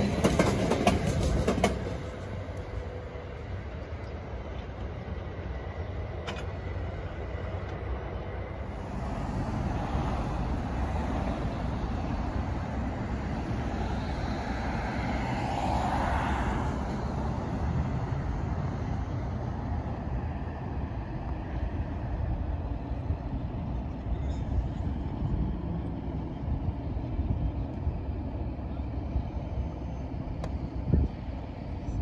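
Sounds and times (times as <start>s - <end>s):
diesel train running: 0.0s - 32.0s
road traffic: 0.0s - 32.0s.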